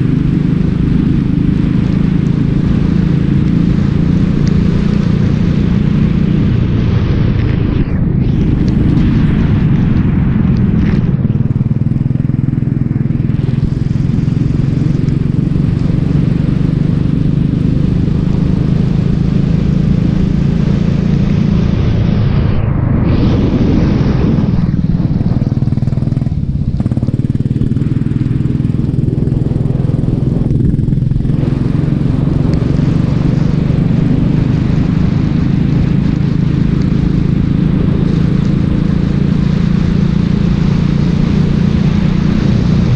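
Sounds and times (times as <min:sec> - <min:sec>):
kart engine running hard: 0:00.0 - 0:42.9.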